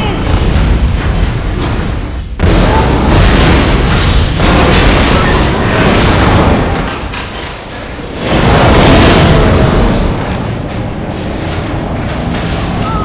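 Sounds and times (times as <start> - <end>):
large explosion with rumbling: 0.0 - 13.0.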